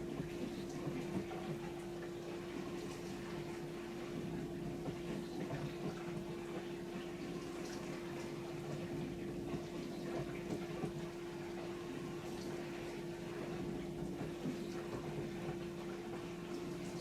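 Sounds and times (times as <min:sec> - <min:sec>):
dishwasher pump humming: 0:00.0 - 0:17.0.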